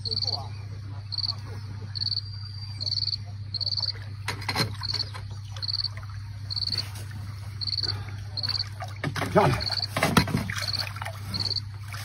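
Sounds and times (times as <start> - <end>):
insect chirping: 0.0 - 12.0
steady low hum: 0.0 - 12.0.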